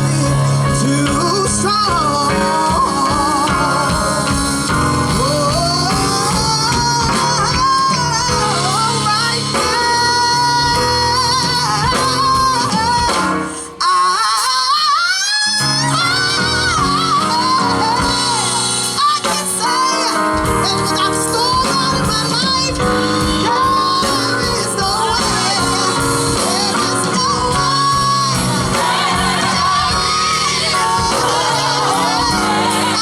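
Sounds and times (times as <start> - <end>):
band accompaniment: 0.0 - 33.0
person singing gospel: 0.0 - 33.0.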